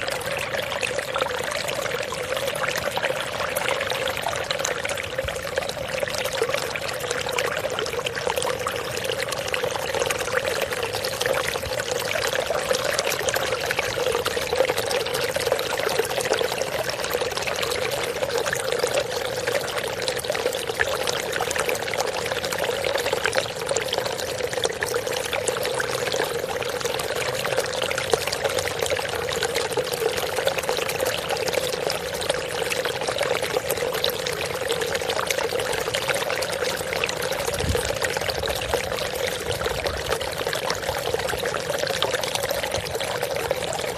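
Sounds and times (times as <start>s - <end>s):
running water pouring: 0.0s - 43.9s.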